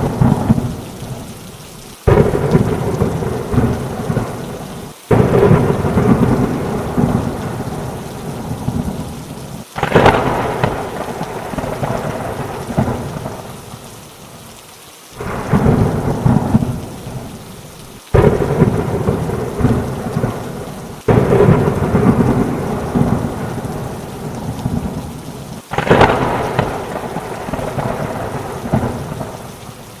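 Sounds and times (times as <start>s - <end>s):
thunder rumbling: 0.0s - 1.4s, 2.0s - 13.8s, 15.2s - 29.8s
heavy rain: 0.0s - 30.0s.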